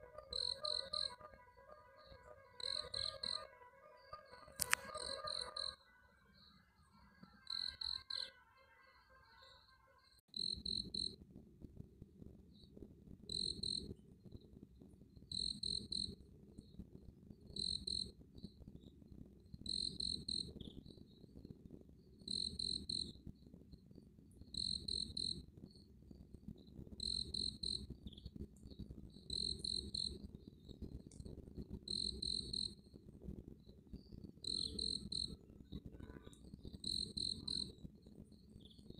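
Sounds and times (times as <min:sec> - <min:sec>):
insect chirping: 0:00.0 - 0:11.2, 0:13.3 - 0:14.0, 0:15.3 - 0:16.8, 0:17.5 - 0:18.9, 0:19.6 - 0:21.2, 0:22.0 - 0:23.2, 0:24.4 - 0:33.0, 0:33.6 - 0:38.9.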